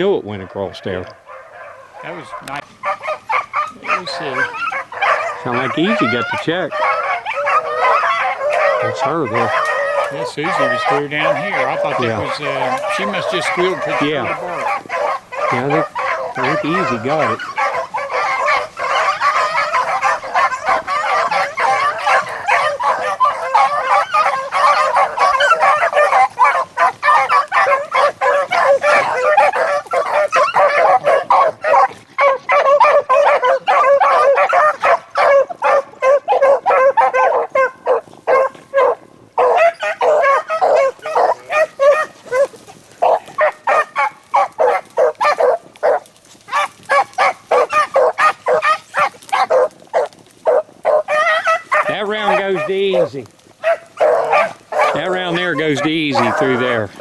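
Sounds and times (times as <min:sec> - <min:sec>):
hounds baying: 0:00.0 - 0:57.0.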